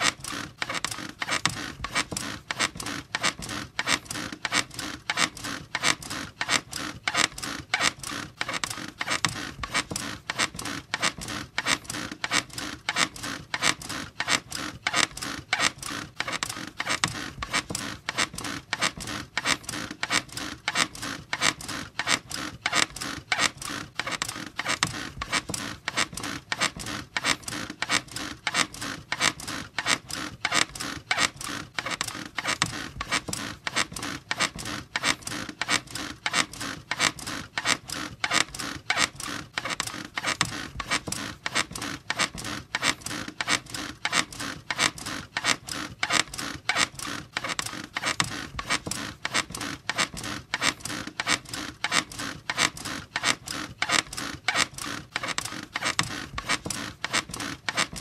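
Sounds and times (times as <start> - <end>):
bed frame squeaking: 0.0 - 58.0.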